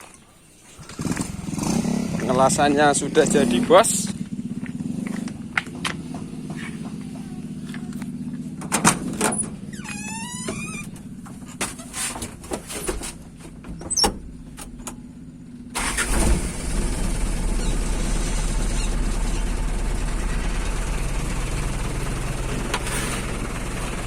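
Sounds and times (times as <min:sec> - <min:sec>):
motorcycle engine running: 0:00.8 - 0:12.0, 0:13.2 - 0:24.0.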